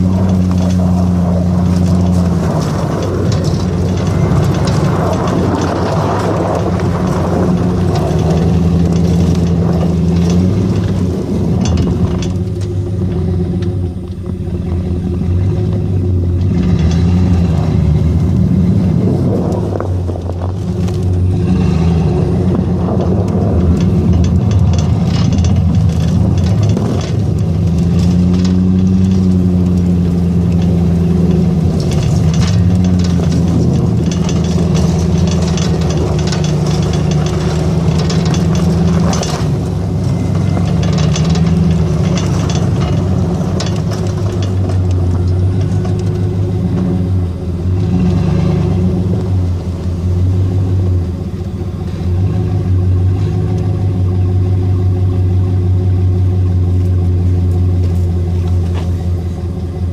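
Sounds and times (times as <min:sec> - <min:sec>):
vehicle engine revving under load: 0:00.0 - 0:59.9.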